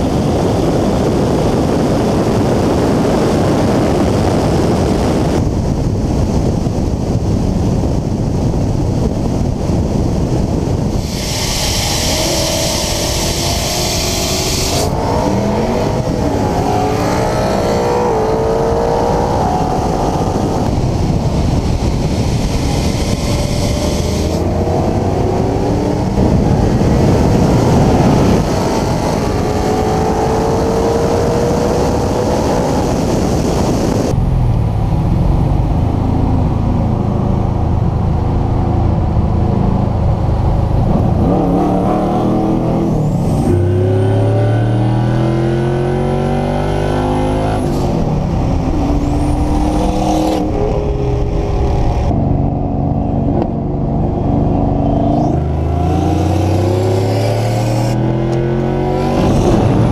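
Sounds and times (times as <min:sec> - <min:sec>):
car engine accelerating: 0:00.0 - 0:59.9
wind and road rush in car: 0:00.0 - 0:59.9.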